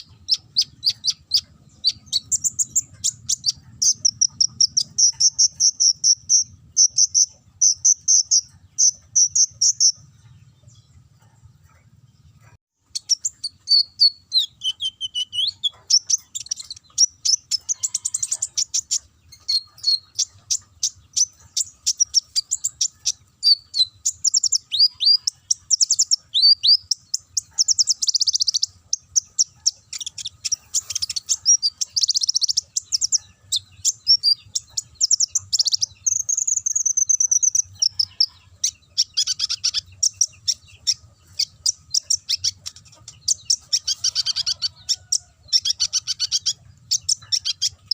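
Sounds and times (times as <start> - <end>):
sunbird singing high chirps: 0.0 - 11.0, 12.9 - 47.9.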